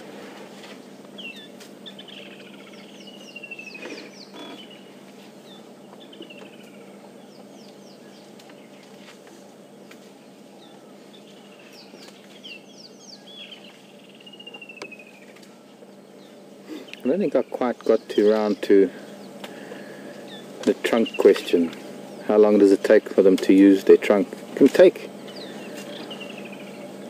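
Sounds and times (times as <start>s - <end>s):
birds calling short falling notes: 1.1s - 27.0s.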